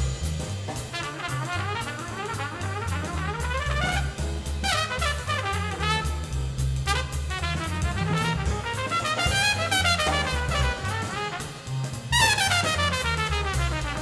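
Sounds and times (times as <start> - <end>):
brass section playing jazz: 0.0 - 14.0
walking bass line: 1.9 - 14.0.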